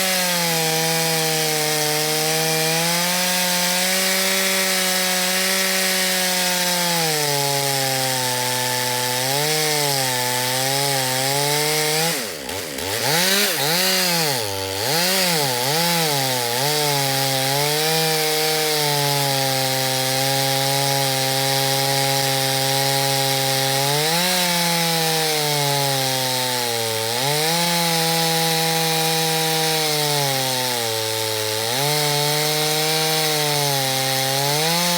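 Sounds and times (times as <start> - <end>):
chainsaw sawing through log: 0.0 - 34.9.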